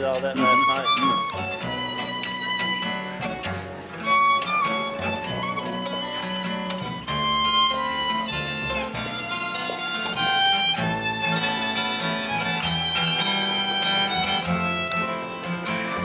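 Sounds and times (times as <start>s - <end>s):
street band playing: 0.0s - 16.0s.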